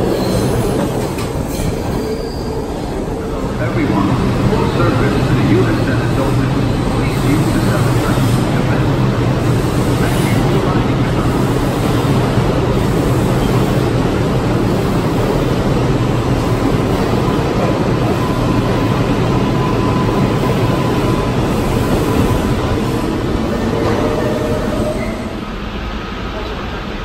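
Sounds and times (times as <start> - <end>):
subway train wheels rumbling on rail: 0.0 - 27.0.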